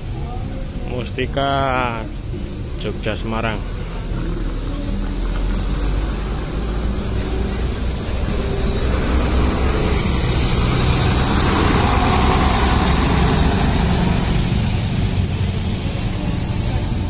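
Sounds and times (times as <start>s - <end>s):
bus diesel engine passing: 0.0s - 17.0s.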